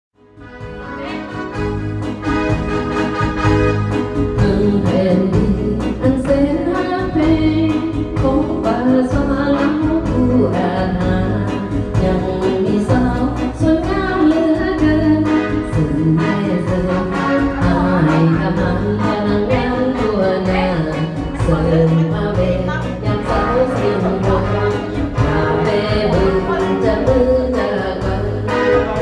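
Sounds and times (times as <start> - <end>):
backing track with steady beat: 0.2 - 29.0
woman singing into microphone: 4.2 - 29.0.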